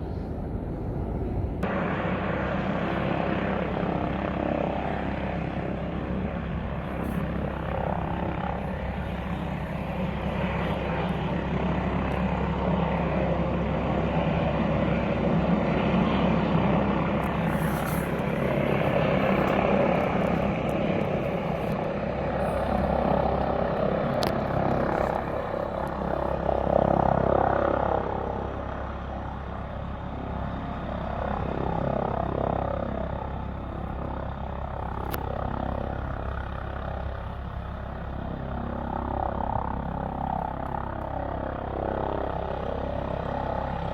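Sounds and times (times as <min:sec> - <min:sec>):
aircraft engine rumble: 0:00.0 - 0:43.9.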